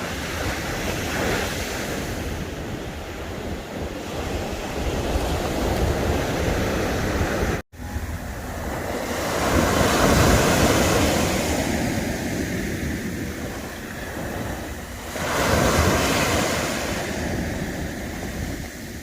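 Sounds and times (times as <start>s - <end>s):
sea waves washing onto shore: 0.0s - 19.0s
wind buffeting microphone: 0.0s - 19.0s.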